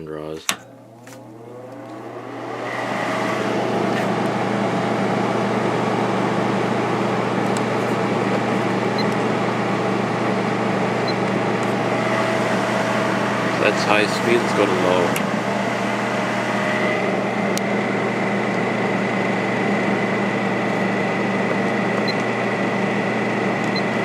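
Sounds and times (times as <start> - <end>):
air conditioner fan rushing air: 0.0 - 24.0
low electrical hum: 0.0 - 24.0.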